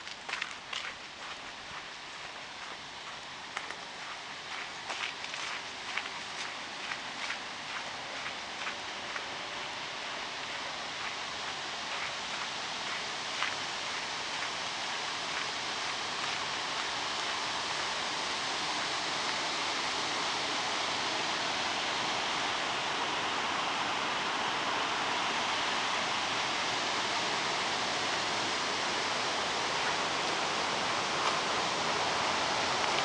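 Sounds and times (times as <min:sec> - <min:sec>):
water rushing over weir: 0:03.4 - 0:33.0.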